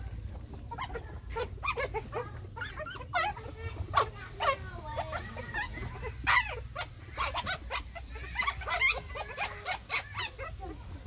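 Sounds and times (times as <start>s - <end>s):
puppies squealing and whining: 0.0s - 11.0s.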